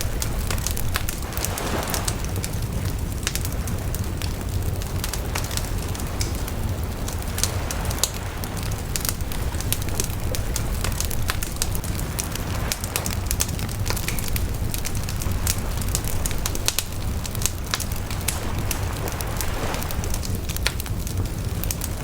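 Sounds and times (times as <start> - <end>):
low rumble: 0.0 - 22.0
wood fire crackling: 0.0 - 22.0.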